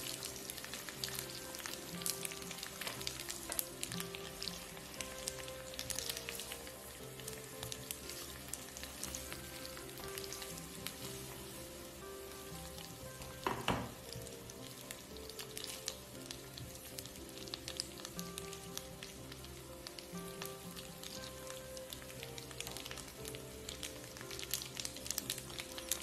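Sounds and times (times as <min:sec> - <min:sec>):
pasta and shrimp sizzling in pan: 0:00.0 - 0:26.0.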